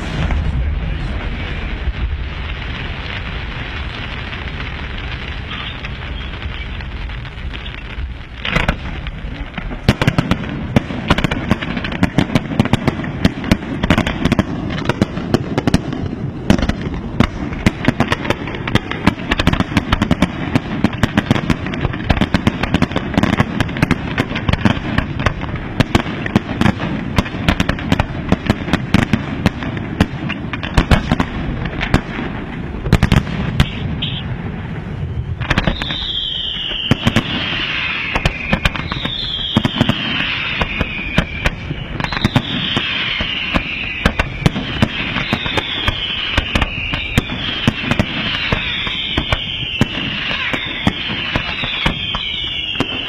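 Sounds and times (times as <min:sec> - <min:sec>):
fireworks bangs and pops: 0:00.0 - 0:53.0
fireworks rumble: 0:00.0 - 0:53.0.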